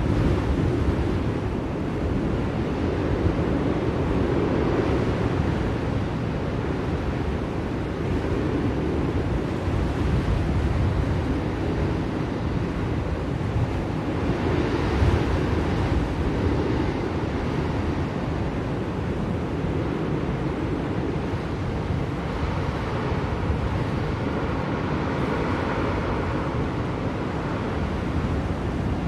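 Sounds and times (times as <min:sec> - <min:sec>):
blizzard wind gusting: 0:00.0 - 0:29.0.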